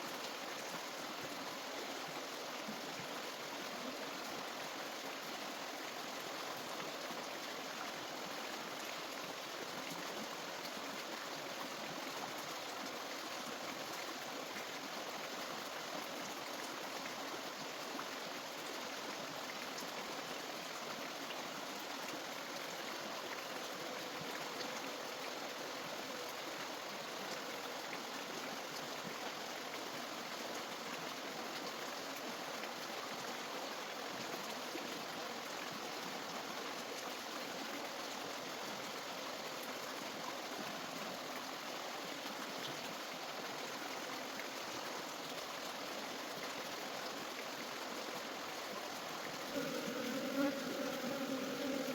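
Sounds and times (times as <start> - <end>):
running water rushing: 0.0 - 51.9.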